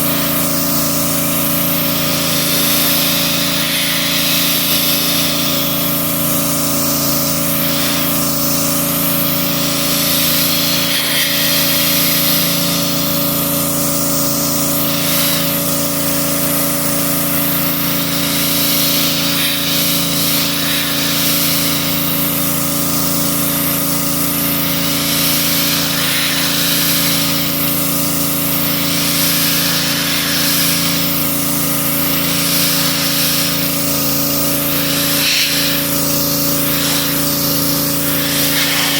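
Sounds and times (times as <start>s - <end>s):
machine humming: 0.0s - 38.9s
spray hissing: 0.0s - 38.9s.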